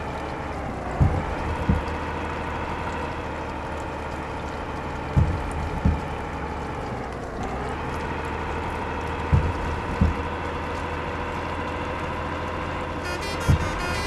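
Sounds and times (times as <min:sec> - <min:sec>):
truck engine driving: 0:00.0 - 0:14.0
low thumps: 0:00.5 - 0:12.2, 0:13.0 - 0:14.0.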